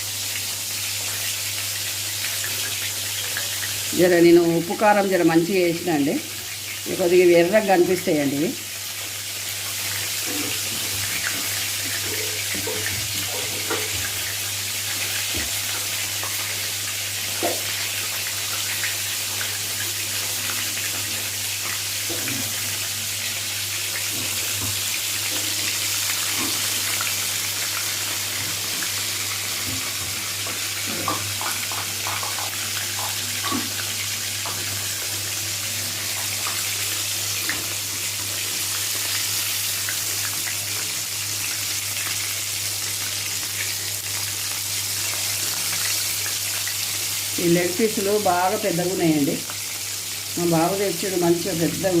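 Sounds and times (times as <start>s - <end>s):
chicken deep-frying in oil: 0.0s - 52.0s.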